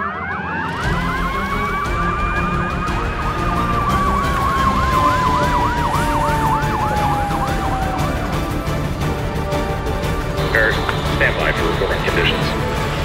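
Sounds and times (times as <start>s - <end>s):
fire engine siren yelping and wailing: 0.0s - 13.0s.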